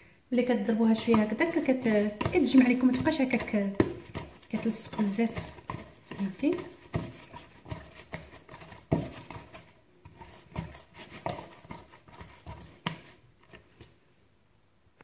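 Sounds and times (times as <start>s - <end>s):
hand slapping bread dough: 0.9s - 13.8s.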